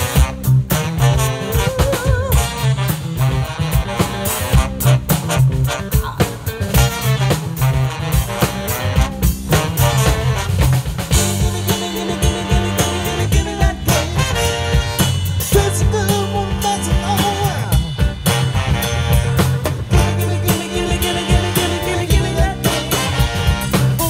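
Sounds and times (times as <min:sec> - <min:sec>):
bass line: 0:00.0 - 0:24.0
drum kit beat: 0:00.0 - 0:24.0
funk band with horns: 0:00.0 - 0:24.0.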